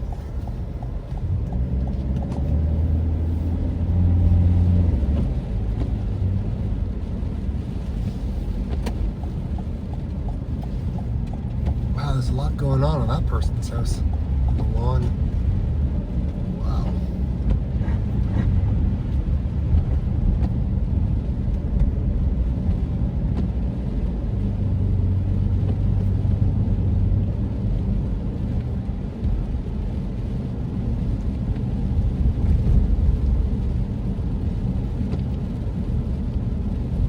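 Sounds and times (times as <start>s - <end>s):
engine and tyres rumbling: 0.0s - 37.0s.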